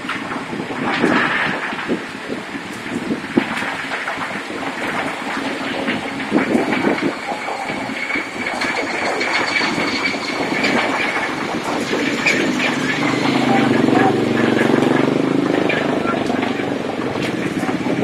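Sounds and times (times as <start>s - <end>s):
sidecar frame rattling: 2.8s - 18.0s.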